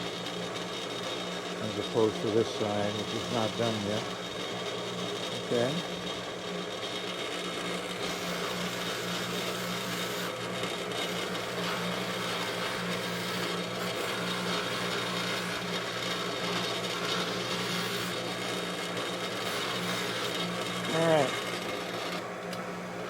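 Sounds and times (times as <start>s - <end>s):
buffer motor humming: 0.0s - 23.0s.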